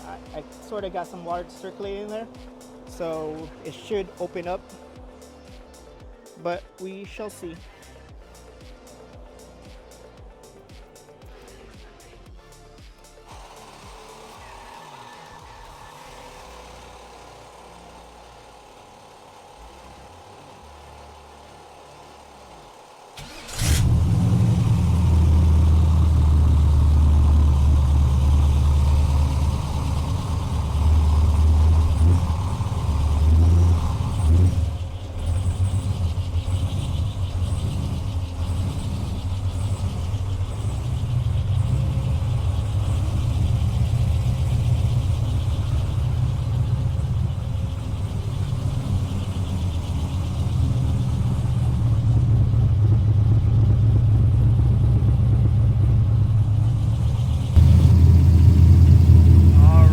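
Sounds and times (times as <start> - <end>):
engine revving and idling: 0.0 - 12.2, 13.0 - 59.9.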